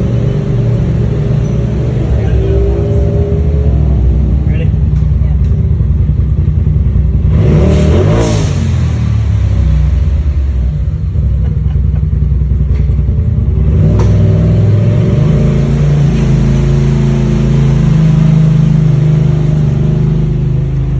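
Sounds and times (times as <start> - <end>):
utility vehicle engine revving: 0.0 - 20.9.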